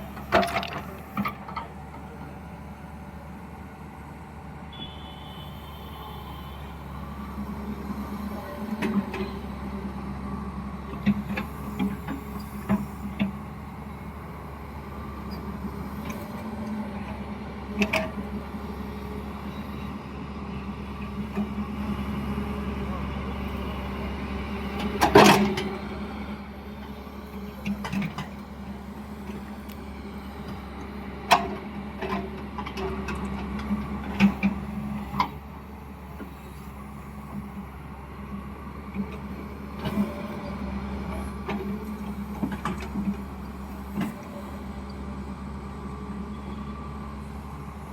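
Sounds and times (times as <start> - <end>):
digger diesel engine running: 0.0 - 47.9.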